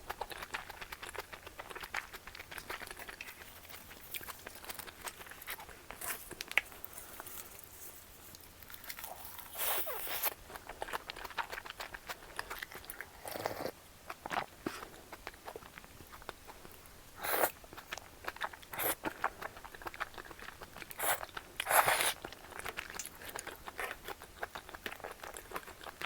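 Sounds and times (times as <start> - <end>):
chewing and biting: 0.1 - 7.4, 8.6 - 26.0.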